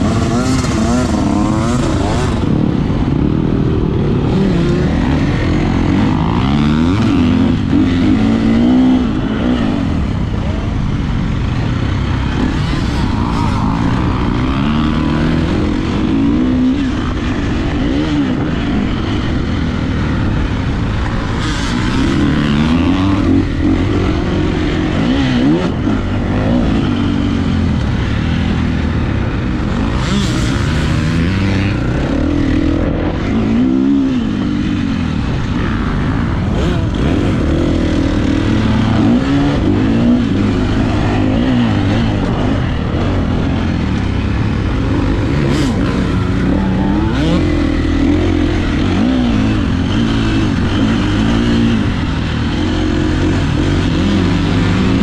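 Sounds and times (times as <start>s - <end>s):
motocross engine revving hard: 0.0s - 10.4s, 21.2s - 55.0s.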